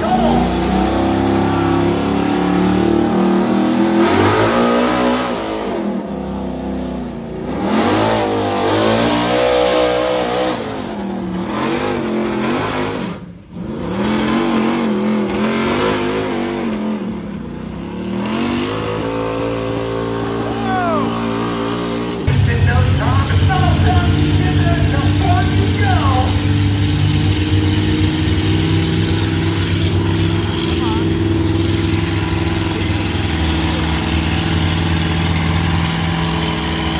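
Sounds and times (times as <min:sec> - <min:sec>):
vehicle engine revving hard: 0:00.0 - 0:36.9.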